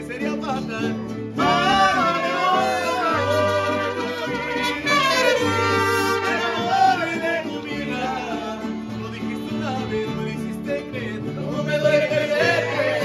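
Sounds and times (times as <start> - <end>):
mariachi band playing: 0.0 - 13.0
person singing: 0.0 - 13.0.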